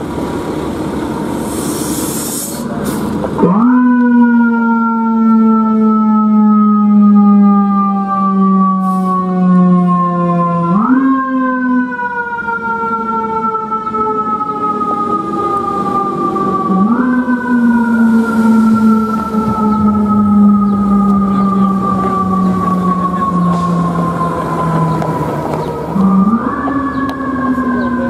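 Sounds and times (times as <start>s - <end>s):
engine and street noise: 0.0s - 28.0s
fire engine siren wailing: 0.0s - 28.0s.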